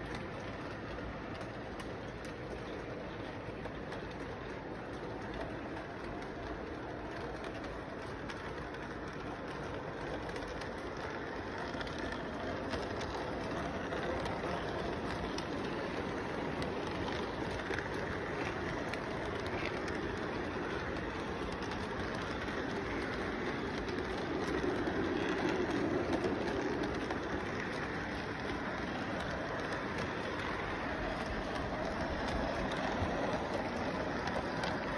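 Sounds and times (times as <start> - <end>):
model train running on track: 0.0 - 34.9.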